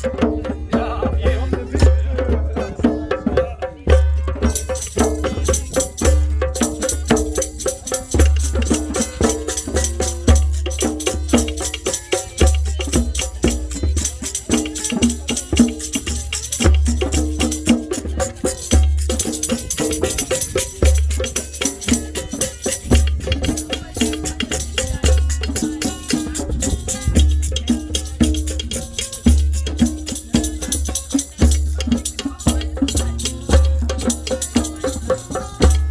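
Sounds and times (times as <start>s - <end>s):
fast hand percussion: 0.0s - 35.9s
jingles: 4.1s - 35.9s.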